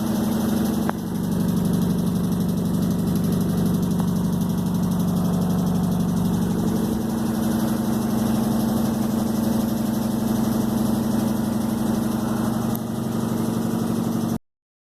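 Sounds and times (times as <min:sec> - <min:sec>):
washing machine motor drone: 0:00.0 - 0:14.4.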